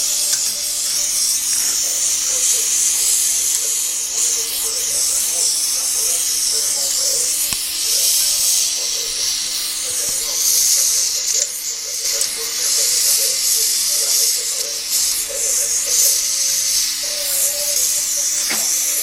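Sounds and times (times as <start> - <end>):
welding torch flame hissing: 0.0 - 19.0.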